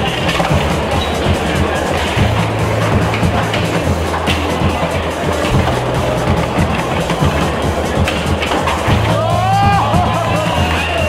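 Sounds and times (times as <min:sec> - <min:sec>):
loud music with bass: 0:00.0 - 0:11.0
skateboard wheels on concrete: 0:00.0 - 0:11.0.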